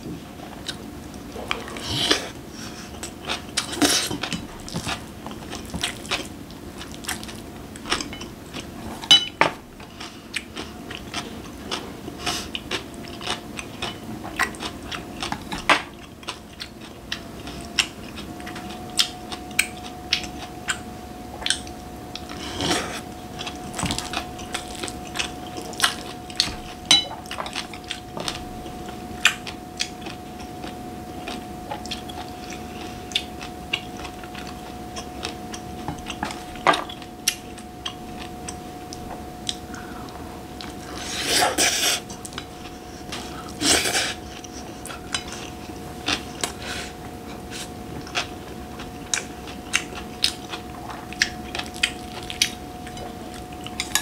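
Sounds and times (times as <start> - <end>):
faint steady hum: 0.0 - 54.0
chewing and crunching: 0.4 - 54.0.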